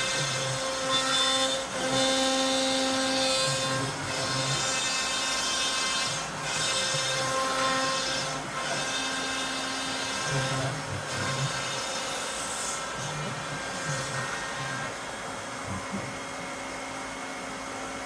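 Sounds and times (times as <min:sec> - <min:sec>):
power tool cutting wood: 0:00.0 - 0:16.4.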